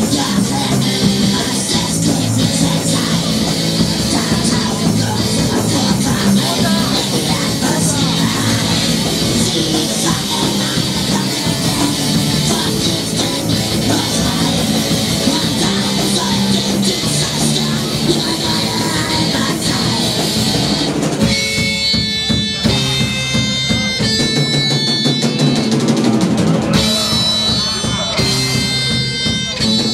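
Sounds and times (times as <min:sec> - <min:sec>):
distorted guitar: 0:00.0 - 0:29.9
drums: 0:00.0 - 0:29.9
rock band playing live: 0:00.0 - 0:29.9.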